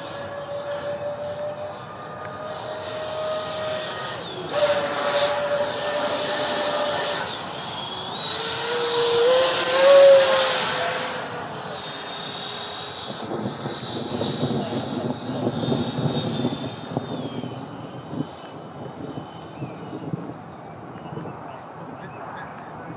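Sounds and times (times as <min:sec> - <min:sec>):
electric ducted fans whining: 0:00.0 - 0:22.9.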